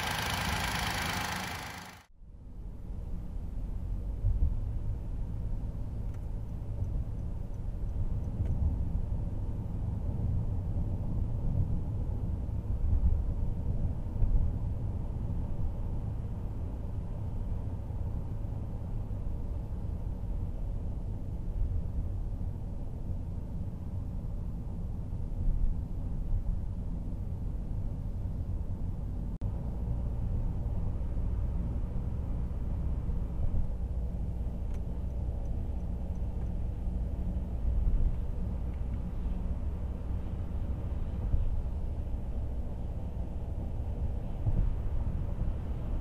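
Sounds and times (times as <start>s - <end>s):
low hum of engine and road noise: 0.0s - 46.0s.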